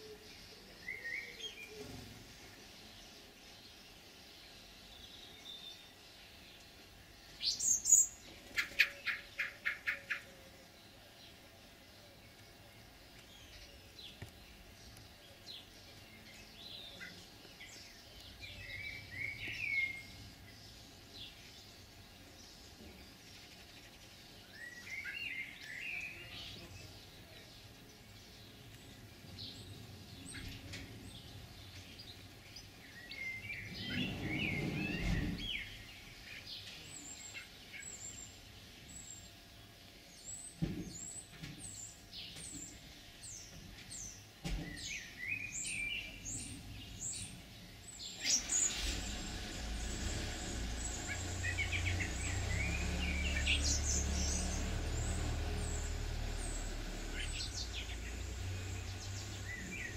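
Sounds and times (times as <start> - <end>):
songbirds twittering: 0.0 - 59.9.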